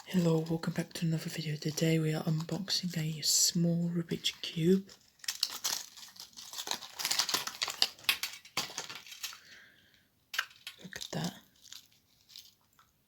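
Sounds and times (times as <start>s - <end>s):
packaging crinkling: 0.0s - 3.3s, 4.2s - 13.0s.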